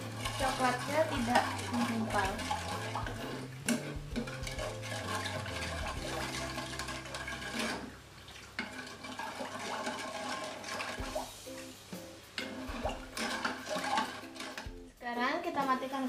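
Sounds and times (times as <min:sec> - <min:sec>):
spoon stirring liquid in saucepan: 0:00.0 - 0:14.9
background music: 0:00.0 - 0:16.0.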